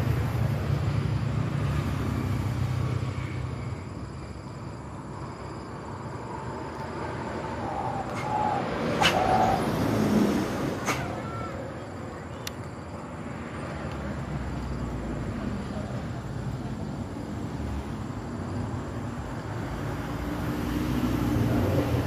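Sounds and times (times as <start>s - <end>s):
passing vehicles rushing: 0.0s - 22.0s.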